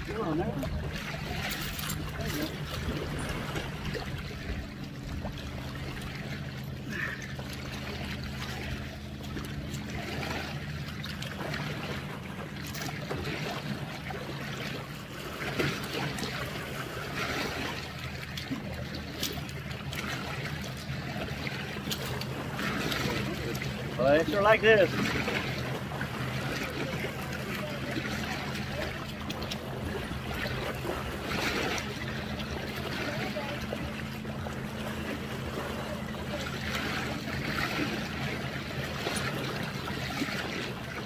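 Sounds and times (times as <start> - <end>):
steady low hum: 0.0 - 41.0
water lapping around kayak: 0.0 - 41.0.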